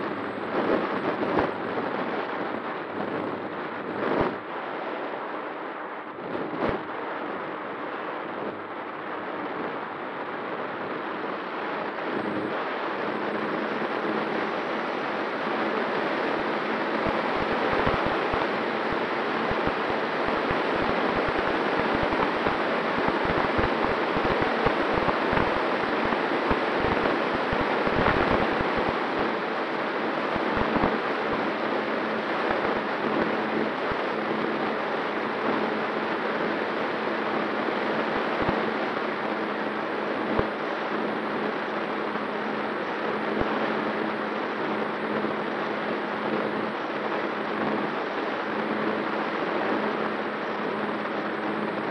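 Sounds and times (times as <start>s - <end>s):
wind hiss on microphone: 0.0s - 51.9s.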